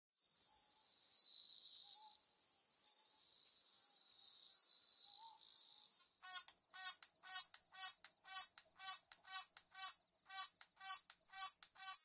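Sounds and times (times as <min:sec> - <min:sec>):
katydid high-pitched buzz: 0:00.2 - 0:12.0.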